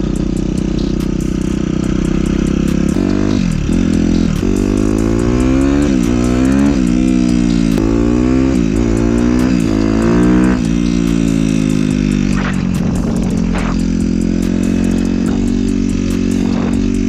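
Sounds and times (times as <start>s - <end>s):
dirt bike engine accelerating: 0.0s - 17.0s.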